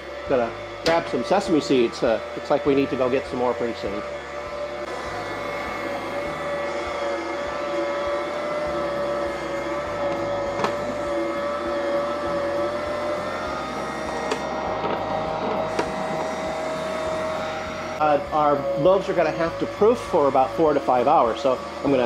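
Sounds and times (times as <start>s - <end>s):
stand mixer motor humming: 0.0s - 22.0s.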